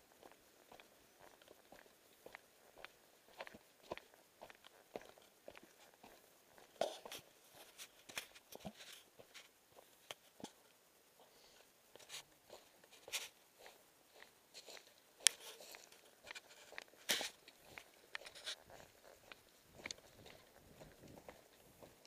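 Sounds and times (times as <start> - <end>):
footsteps crunching on dirt trail: 0.1 - 10.6, 11.9 - 22.0.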